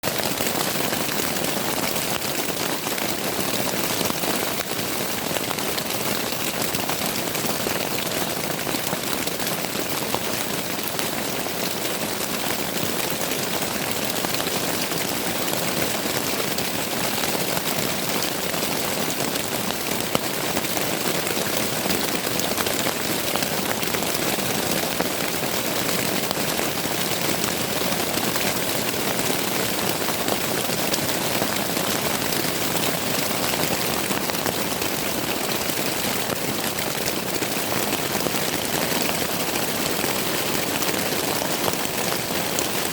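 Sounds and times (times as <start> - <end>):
rain pattering on a tent: 0.0 - 42.9.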